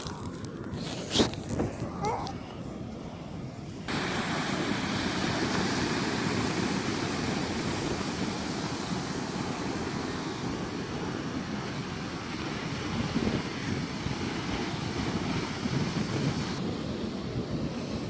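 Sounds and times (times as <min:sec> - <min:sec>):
wind: 0:00.0 - 0:18.0
ocean surf: 0:01.7 - 0:18.0.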